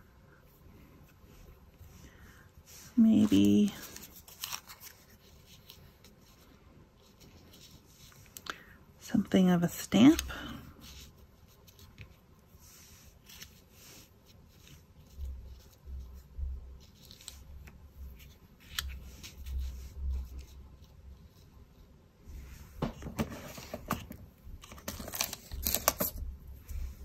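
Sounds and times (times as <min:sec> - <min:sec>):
paper and lace rustling: 0:00.3 - 0:08.5, 0:09.1 - 0:27.0.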